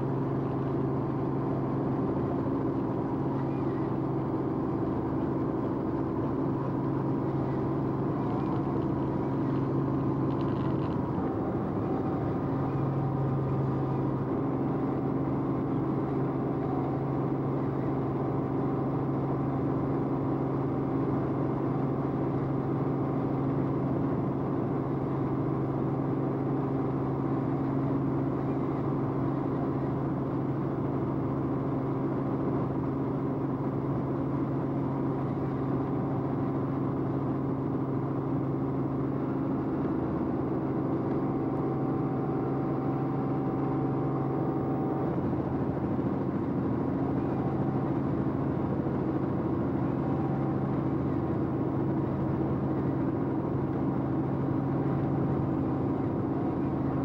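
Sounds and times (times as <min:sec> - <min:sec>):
aircraft engine drone in cabin: 0:00.0 - 0:57.0.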